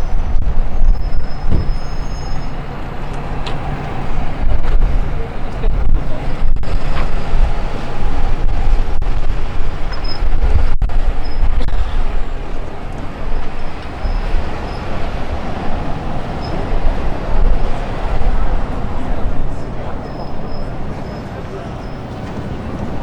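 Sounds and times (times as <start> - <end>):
faint street ambience: 0.0 - 23.0
wind buffeting microphone: 0.0 - 23.0.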